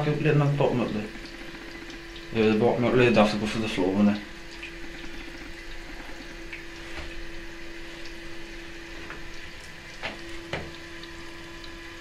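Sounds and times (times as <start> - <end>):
toilet cistern refilling: 0.0 - 12.0.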